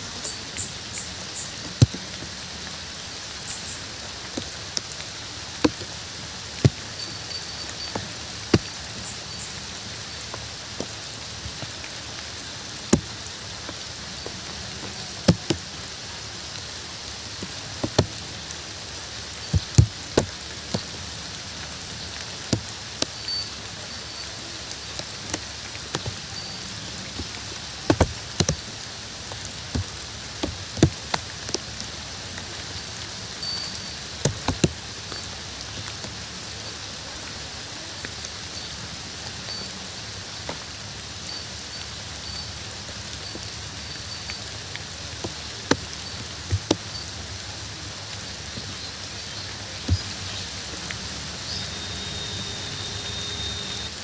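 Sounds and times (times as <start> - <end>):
heavy raindrops plopping: 0.0 - 54.0
steady rain falling: 0.0 - 54.0.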